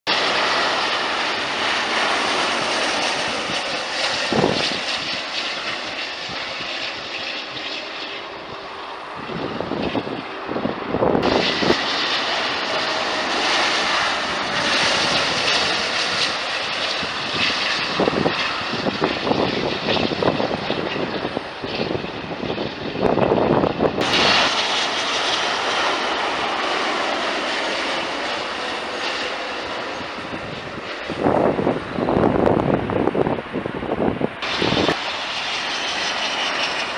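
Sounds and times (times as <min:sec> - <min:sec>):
jet airliner landing: 0:00.0 - 0:36.9.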